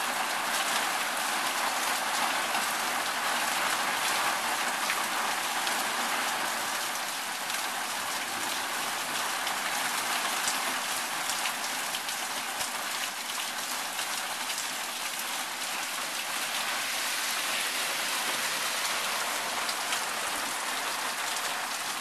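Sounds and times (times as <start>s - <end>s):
heavy rain on pavement and lawn: 0.0s - 22.0s.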